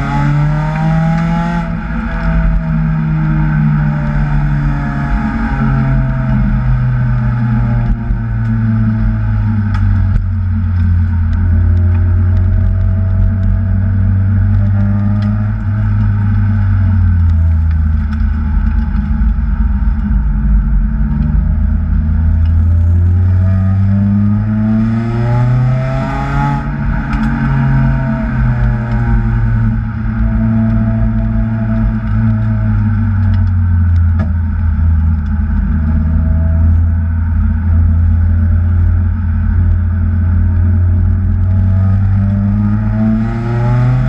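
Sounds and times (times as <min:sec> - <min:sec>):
car engine revving under load: 0:00.0 - 0:44.0.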